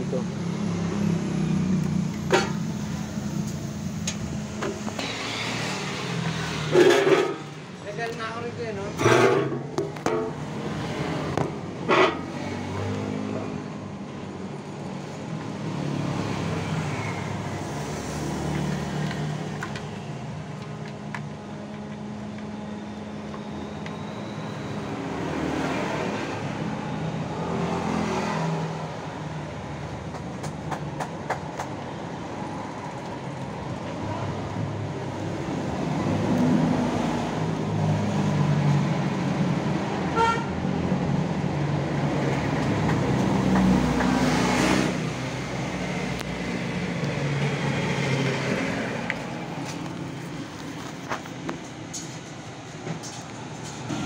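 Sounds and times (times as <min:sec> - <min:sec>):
traffic engine hum: 0:00.0 - 0:54.0.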